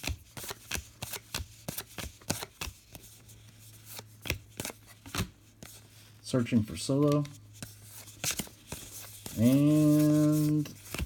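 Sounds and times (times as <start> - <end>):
cards being flipped: 0.0 - 5.8, 7.0 - 11.0.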